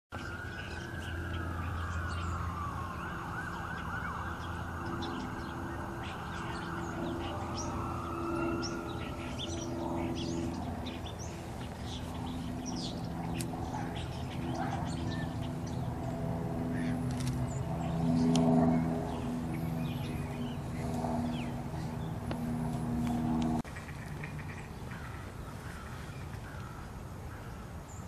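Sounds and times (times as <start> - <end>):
siren wailing: 0.1 - 23.6
low steady hum: 0.2 - 28.0
small birds chirping: 0.2 - 28.0.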